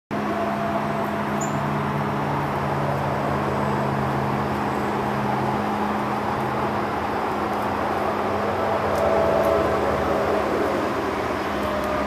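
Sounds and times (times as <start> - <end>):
mechanical roar with droning hum: 0.1 - 12.0.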